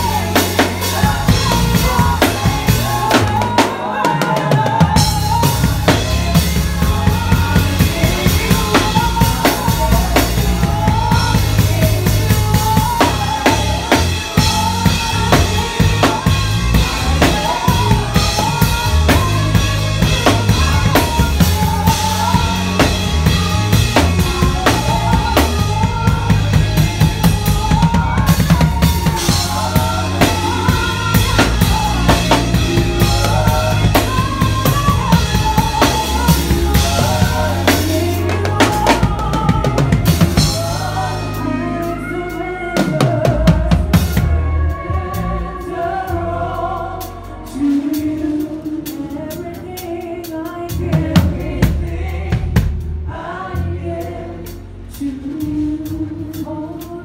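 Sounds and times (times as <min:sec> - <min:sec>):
bass: 0:00.0 - 0:57.0
drum kit playing: 0:00.0 - 0:57.0
keyboard: 0:00.0 - 0:57.0.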